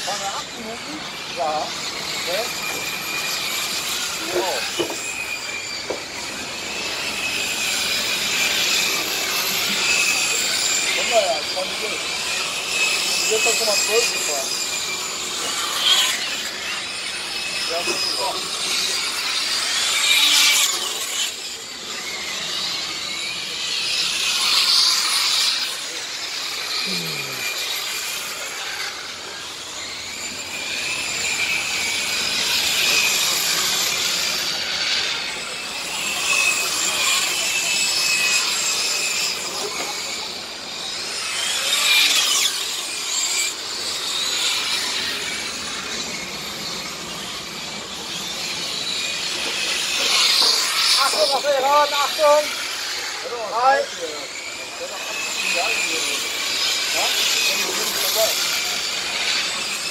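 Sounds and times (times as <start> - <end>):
model race car motors whining: 0.0 - 59.9.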